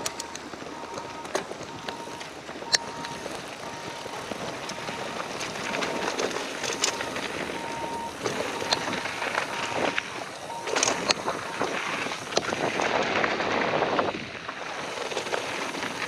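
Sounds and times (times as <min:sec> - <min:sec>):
faint whine: 0:00.0 - 0:16.0
rush of tyres and wind: 0:00.0 - 0:16.0.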